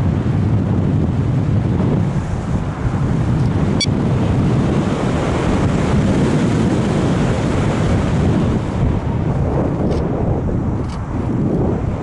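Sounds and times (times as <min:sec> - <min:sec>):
wind rush over microphone: 0:00.0 - 0:12.0.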